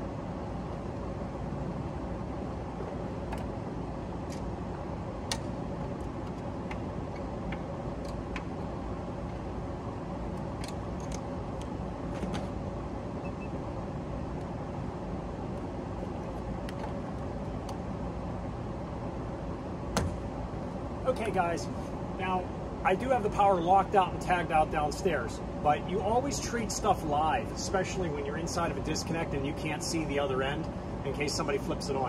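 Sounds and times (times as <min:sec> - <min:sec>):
faint steady hum: 0:00.0 - 0:32.0
hvac machinery drone: 0:00.0 - 0:32.0.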